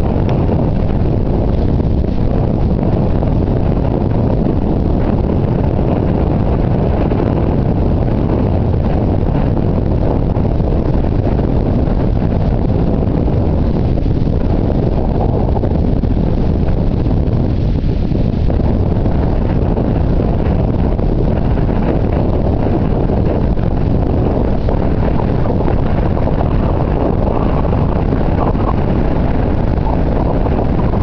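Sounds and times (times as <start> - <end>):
vehicle engine noise: 0.0 - 31.0
wind buffeting microphone: 0.0 - 31.0.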